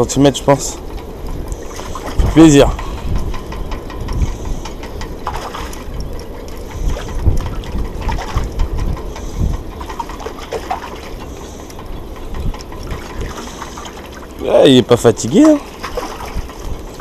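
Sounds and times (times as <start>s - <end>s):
water lapping: 0.0s - 17.0s
wind gusting on microphone: 0.0s - 17.0s.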